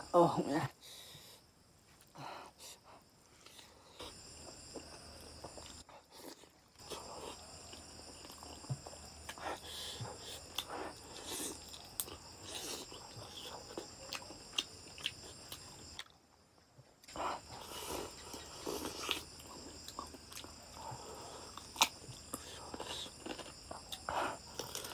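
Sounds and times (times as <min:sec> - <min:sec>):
person chewing wetly: 0:03.3 - 0:16.2, 0:17.0 - 0:24.9.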